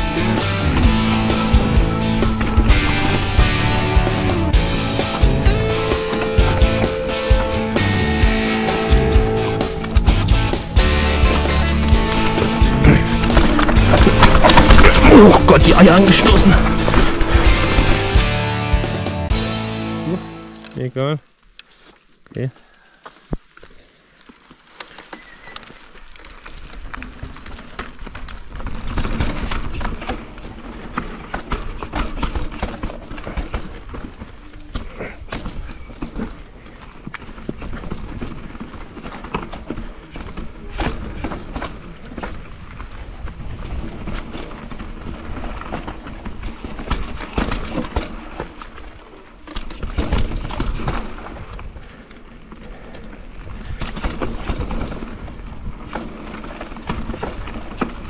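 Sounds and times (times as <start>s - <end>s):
bike tyres rumbling: 0.0s - 20.6s, 21.3s - 58.0s
bike clattering and knocking: 0.1s - 18.6s, 26.0s - 58.0s.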